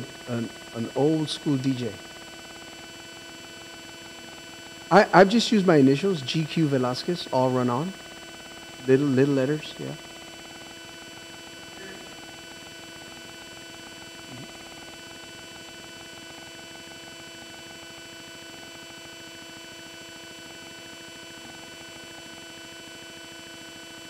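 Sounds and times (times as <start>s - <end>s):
electrical hum and whine: 0.0s - 24.0s.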